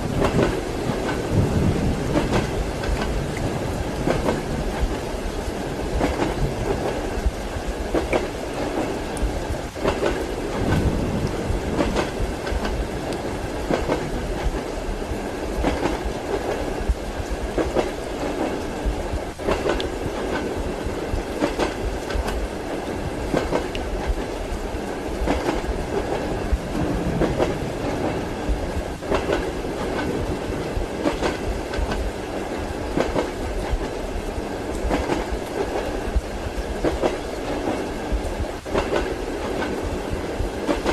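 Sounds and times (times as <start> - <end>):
train rumble: 0.0 - 40.9
train wheels clacking: 0.0 - 40.9.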